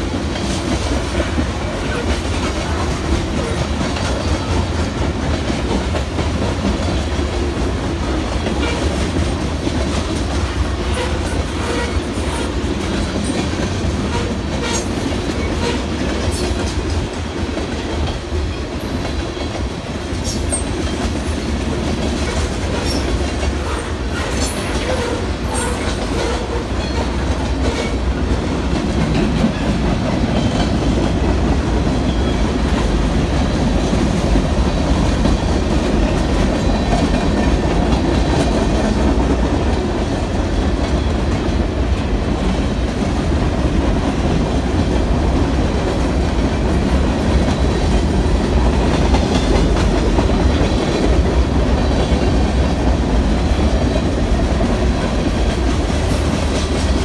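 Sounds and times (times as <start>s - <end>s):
freight train low rumble: 0.0s - 57.0s
wheels clickety-clack over rail joints: 0.0s - 57.0s.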